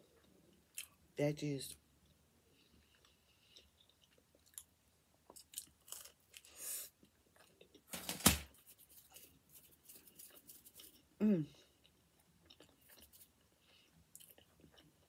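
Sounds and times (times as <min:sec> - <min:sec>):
person chewing food: 0:00.0 - 0:01.0, 0:02.0 - 0:07.9, 0:08.9 - 0:15.0.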